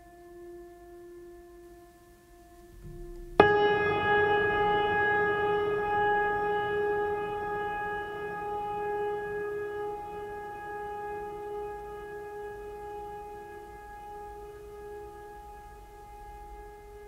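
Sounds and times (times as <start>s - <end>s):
instrumental music: 0.0s - 17.0s
sustained chord: 0.0s - 17.0s.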